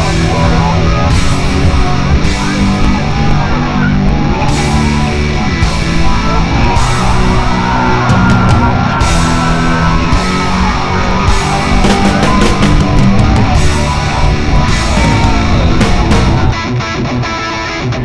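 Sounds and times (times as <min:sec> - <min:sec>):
heavy rock music: 0:00.0 - 0:18.0.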